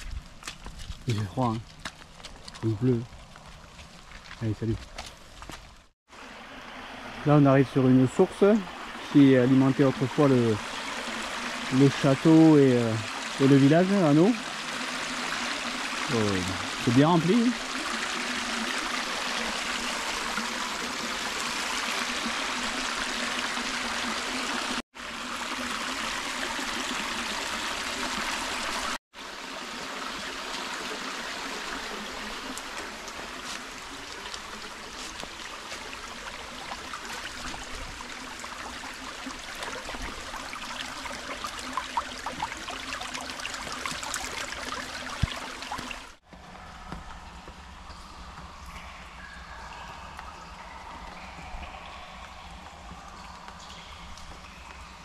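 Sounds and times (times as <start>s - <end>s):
water running and trickling: 0.0s - 46.2s.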